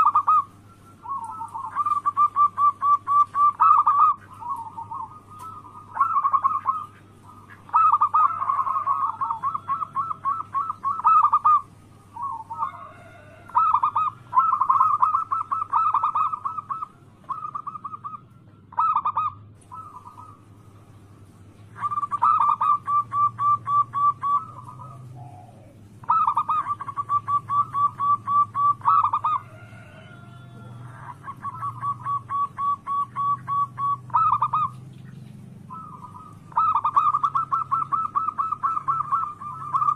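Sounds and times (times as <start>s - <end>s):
doves cooing: 0.0s - 39.9s
fainter bird notes: 0.0s - 39.9s.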